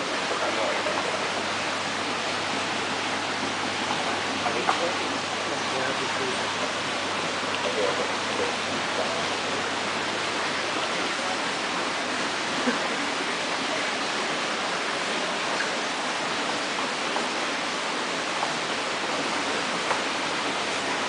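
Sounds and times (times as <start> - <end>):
aquarium water bubbling: 0.0 - 21.0.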